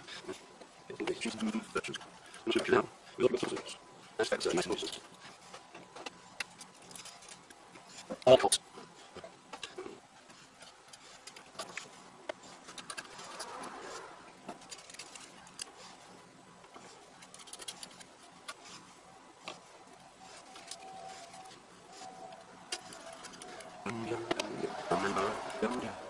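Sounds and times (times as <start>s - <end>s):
handling rustle: 0.1s - 26.0s.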